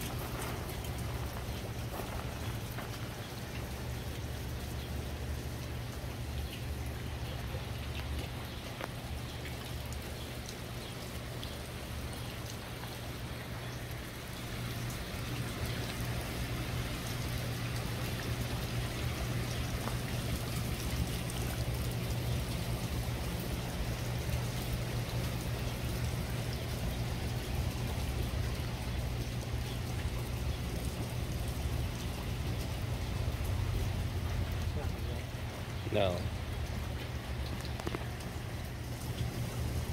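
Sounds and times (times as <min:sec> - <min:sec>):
fountain water splashing: 0:00.0 - 0:39.9
low steady hum: 0:00.0 - 0:39.9.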